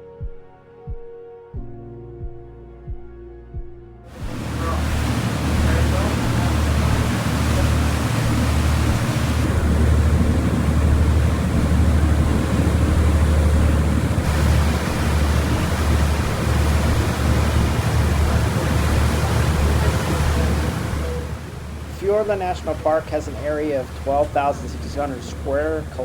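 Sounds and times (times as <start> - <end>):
rushing water: 4.1 - 26.0
wind buffeting microphone: 4.1 - 26.0.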